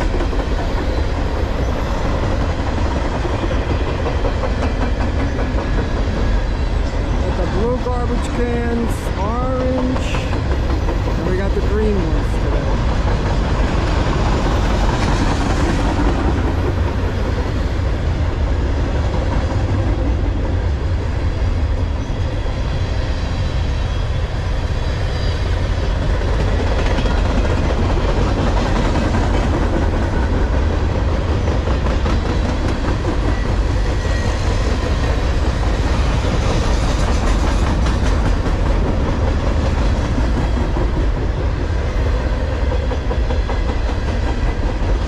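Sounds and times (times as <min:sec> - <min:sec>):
steel train wheels rumbling on rail: 0:00.0 - 0:45.0.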